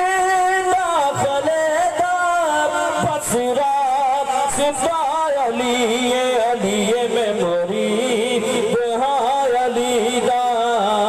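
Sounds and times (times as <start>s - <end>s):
man singing devotional solo: 0.0s - 11.0s.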